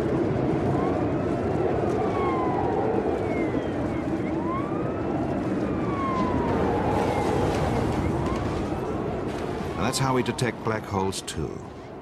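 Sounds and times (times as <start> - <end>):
heavy wind rushing: 0.0 - 12.0
siren wailing: 0.0 - 12.0.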